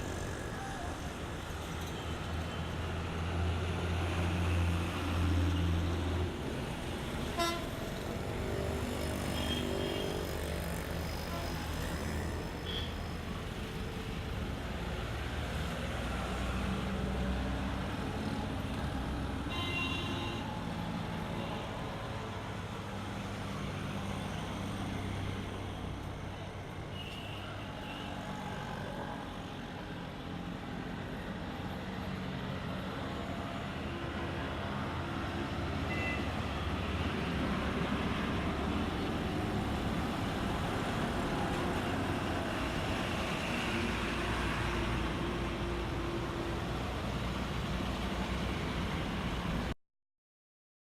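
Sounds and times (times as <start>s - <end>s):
car and truck engines: 0.0s - 27.0s, 27.6s - 49.8s.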